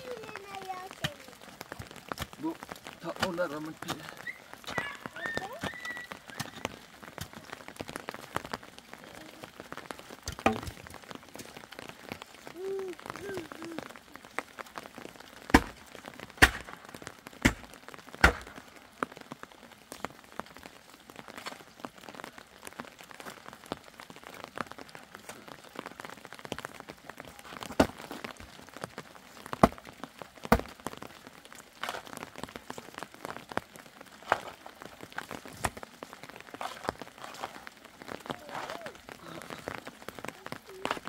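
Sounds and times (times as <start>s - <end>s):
light rain patter: 0.0s - 41.0s
raindrops tapping sharply: 0.0s - 41.0s.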